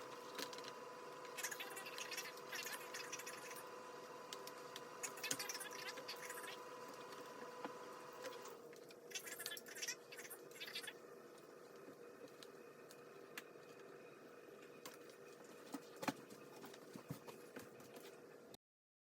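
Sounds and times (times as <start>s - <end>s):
faint hum: 0.0s - 18.6s.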